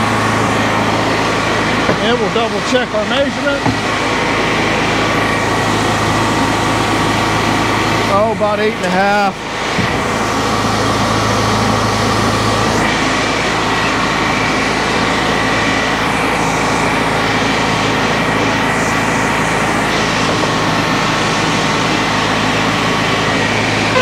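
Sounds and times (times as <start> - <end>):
board edger engine droning: 0.0 - 24.0
saw blades cutting wood: 0.0 - 24.0.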